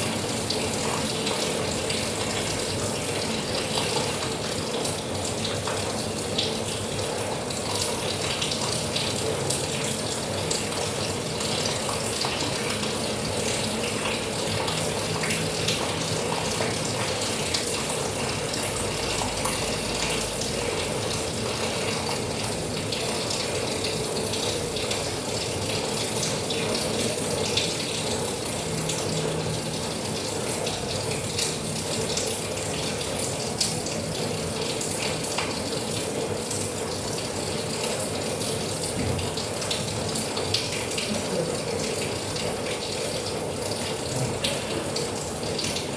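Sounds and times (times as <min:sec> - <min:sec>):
steady rain falling: 0:07.0 - 0:45.9.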